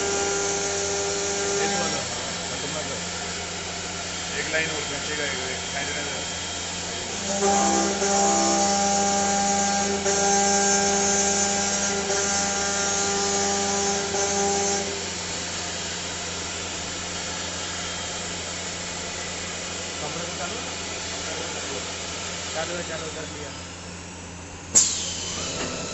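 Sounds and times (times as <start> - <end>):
lathe cutting whine with hiss: 0.0 - 25.9
steady machine hum: 0.0 - 25.9.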